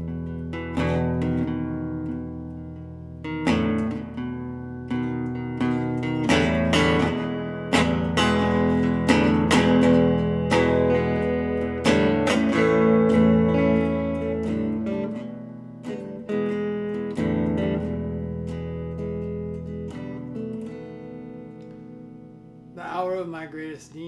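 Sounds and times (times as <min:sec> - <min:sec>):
electric guitar strummed chords: 0:00.0 - 0:24.0.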